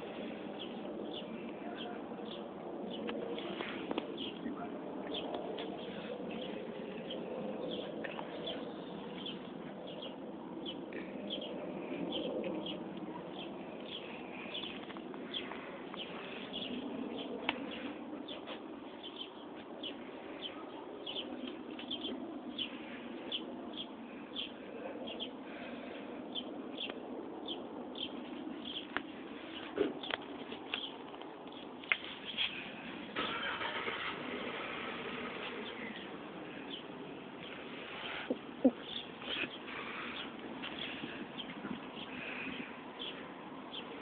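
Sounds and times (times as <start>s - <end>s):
small birds chirping: 0.0s - 33.2s, 34.5s - 44.0s
low steady background noise: 0.0s - 44.0s.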